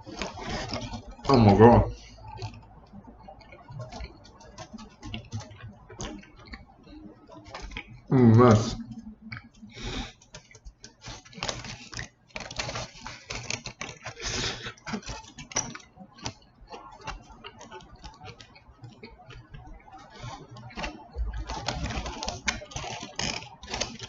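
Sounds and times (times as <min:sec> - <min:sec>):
chewing: 0:00.0 - 0:24.0.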